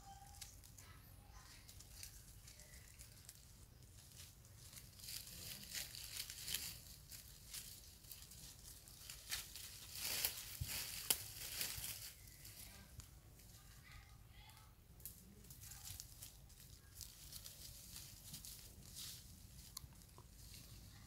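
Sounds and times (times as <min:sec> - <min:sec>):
dry leaves crackling and rustling: 0:00.0 - 0:21.0.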